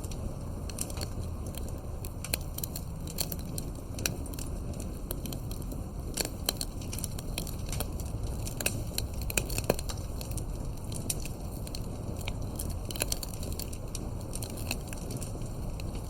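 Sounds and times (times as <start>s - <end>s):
fireplace crackling: 0.0s - 16.0s.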